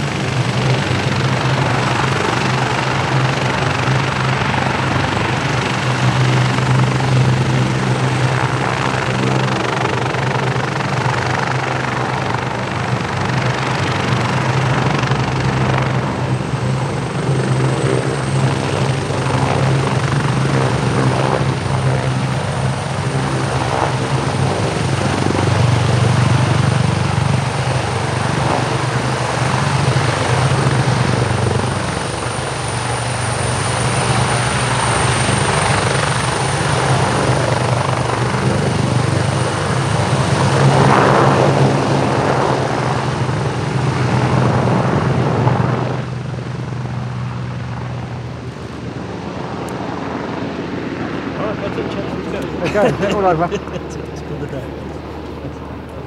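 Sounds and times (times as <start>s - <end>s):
helicopter rotor hum: 0.0s - 56.0s
helicopter turbine whine: 0.0s - 56.0s.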